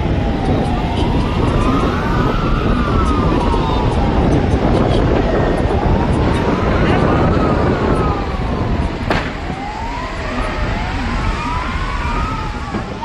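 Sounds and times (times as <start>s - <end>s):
emergency sirens wailing: 0.0s - 13.0s
heavy low rumble: 0.0s - 13.0s.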